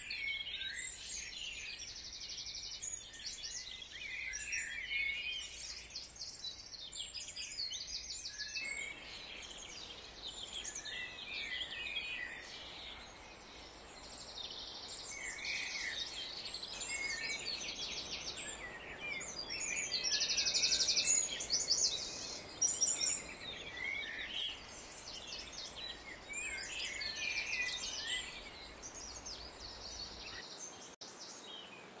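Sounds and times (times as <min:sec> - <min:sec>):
songbirds singing: 0:00.0 - 0:32.0.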